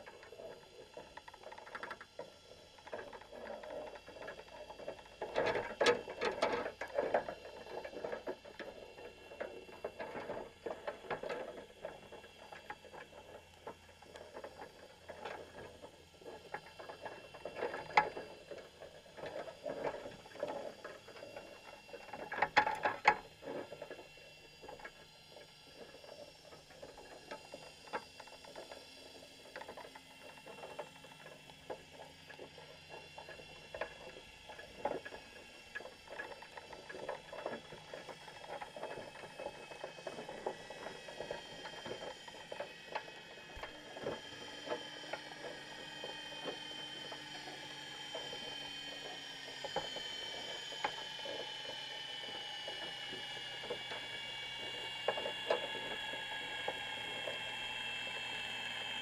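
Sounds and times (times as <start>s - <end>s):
underwater clicking and rattling: 0.0s - 59.0s.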